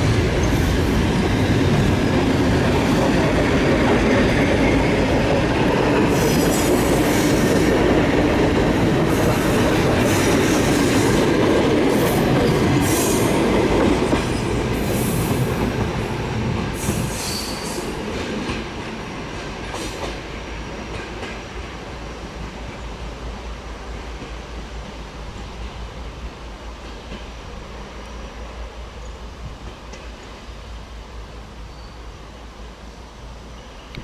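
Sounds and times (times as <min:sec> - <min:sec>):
electric train rolling: 0:00.0 - 0:32.0.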